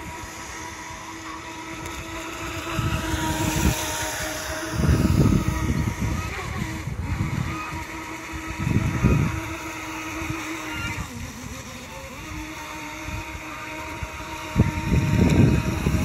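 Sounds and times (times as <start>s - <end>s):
electric motor whining: 0.0s - 16.0s
wind rumbling on microphone: 0.0s - 16.0s.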